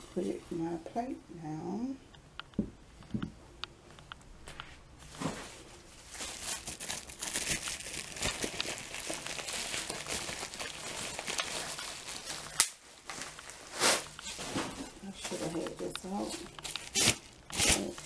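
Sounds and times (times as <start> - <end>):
crinkling and rustling: 2.5 - 18.0.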